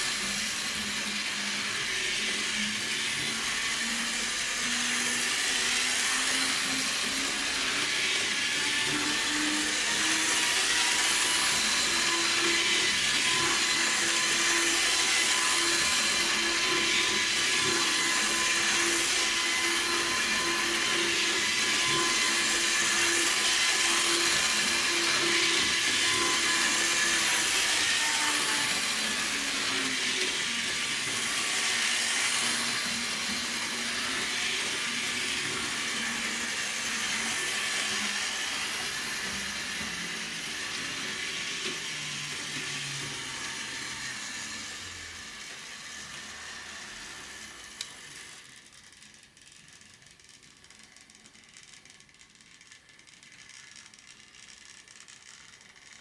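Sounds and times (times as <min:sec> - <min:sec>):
model train motor whine: 0:00.0 - 0:56.0.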